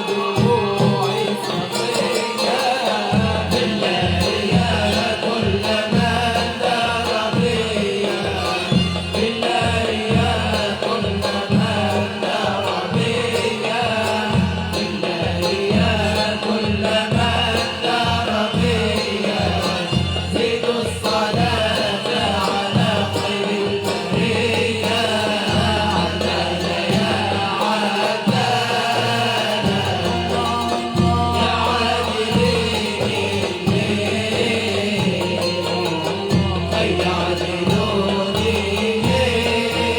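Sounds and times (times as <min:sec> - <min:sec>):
instrumental ensemble accompaniment: 0:00.0 - 0:39.9
voices singing winding melody: 0:00.0 - 0:39.9.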